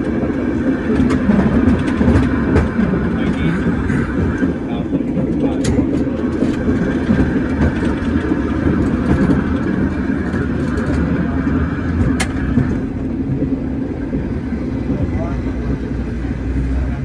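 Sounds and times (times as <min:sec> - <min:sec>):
cable car rumbling on track: 0:00.0 - 0:17.0.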